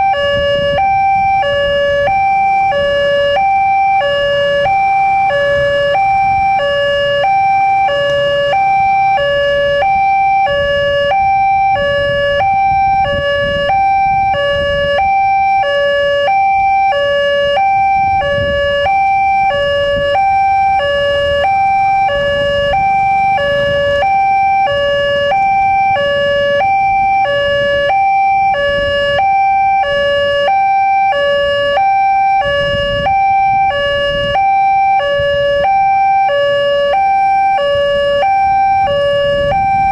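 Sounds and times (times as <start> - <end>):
low traffic rumble: 0.0 - 39.9
two-tone crossing alarm: 0.0 - 39.9.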